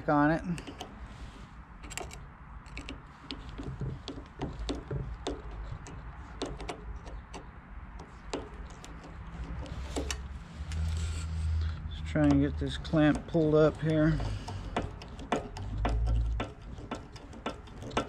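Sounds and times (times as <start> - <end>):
hand tools clicking and tapping: 0.5 - 1.0, 1.8 - 18.0.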